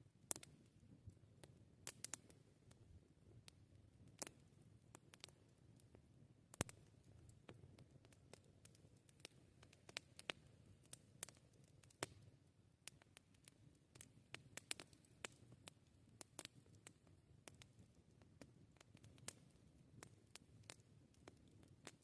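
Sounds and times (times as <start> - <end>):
campfire crackling: 0.2 - 22.0.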